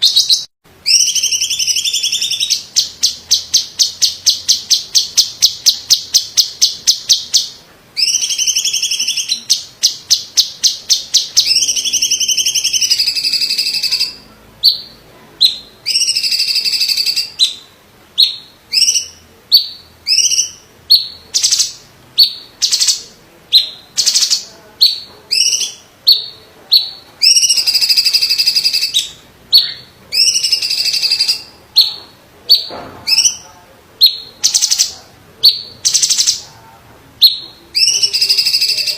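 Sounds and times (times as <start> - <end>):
leafbird singing: 0.0 - 36.5, 37.2 - 38.9.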